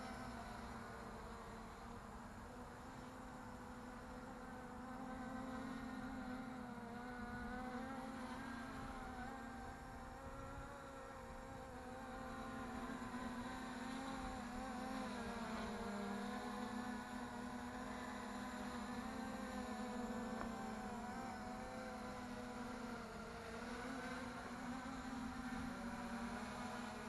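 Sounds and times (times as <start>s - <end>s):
quadcopter propellers buzzing: 0.0s - 27.0s.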